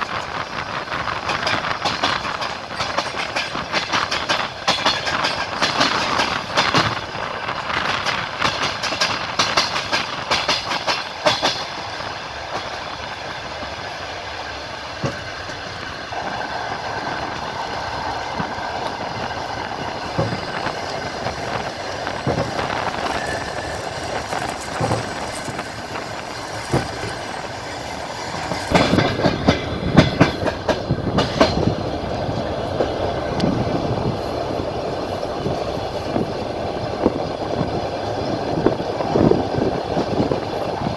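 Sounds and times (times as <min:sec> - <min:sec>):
train wheels clacking over rail joints: 0:00.0 - 0:40.9.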